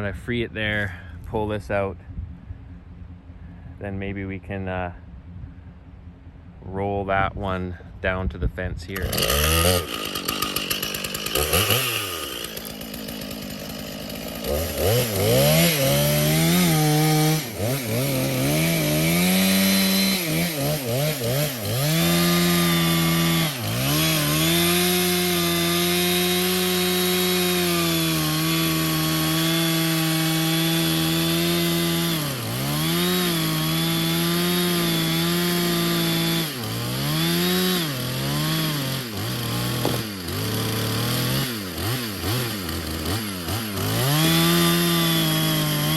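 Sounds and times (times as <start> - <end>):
chainsaw cutting log: 8.9 - 45.9.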